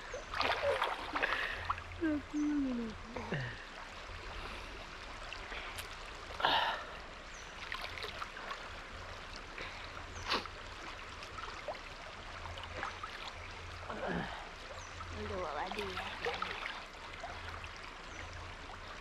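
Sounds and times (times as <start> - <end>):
running water: 0.0 - 19.0.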